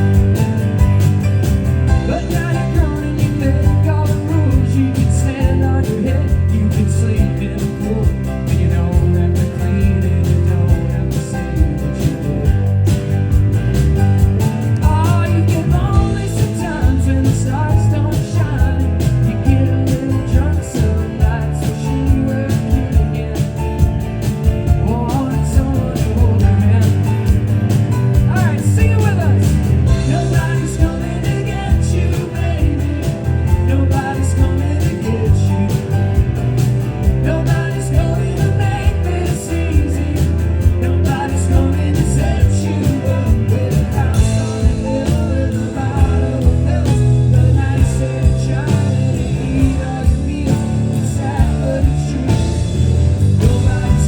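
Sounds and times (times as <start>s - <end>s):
live rock band playing: 0.0s - 54.0s
person singing: 1.9s - 12.9s, 14.6s - 54.0s.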